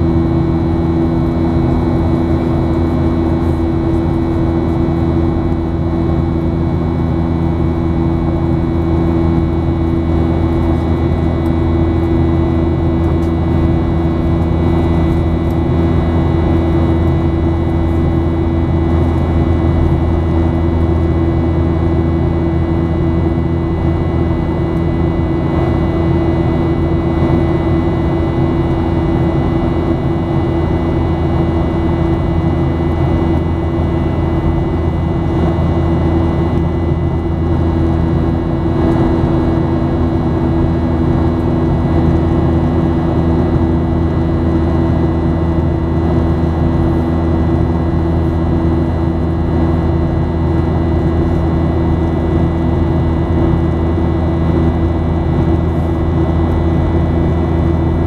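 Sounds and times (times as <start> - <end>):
jet engines humming: 0.0 - 58.0.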